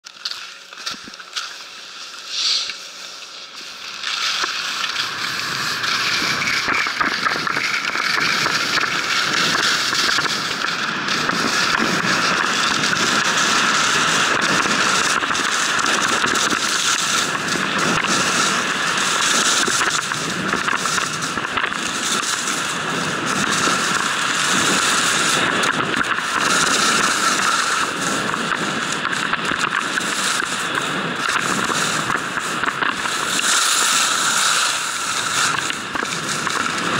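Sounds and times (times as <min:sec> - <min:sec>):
skis scraping on snow: 0:00.0 - 0:36.9.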